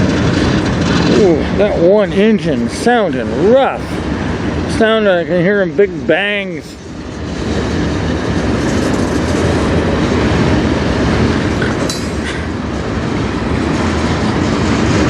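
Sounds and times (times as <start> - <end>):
freight train rumbling: 0.0 - 15.0
wheels clattering on rails: 0.0 - 15.0.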